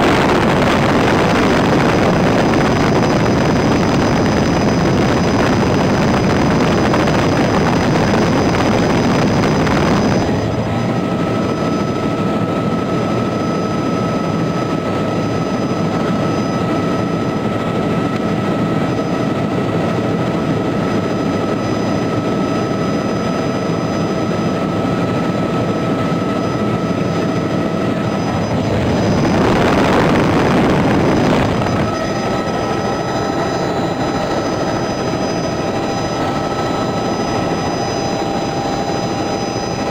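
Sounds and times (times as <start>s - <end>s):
helicopter engine and rotor: 0.0s - 39.9s
thin steady whine: 0.0s - 39.9s.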